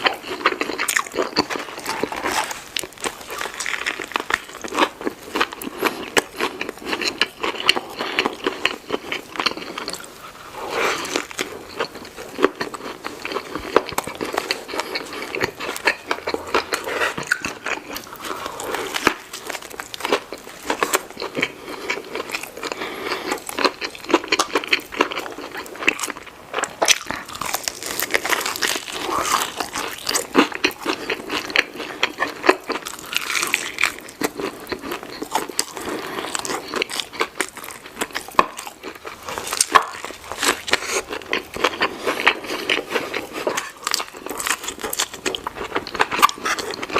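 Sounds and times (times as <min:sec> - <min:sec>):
crunchy food chewing: 0:00.0 - 0:46.9.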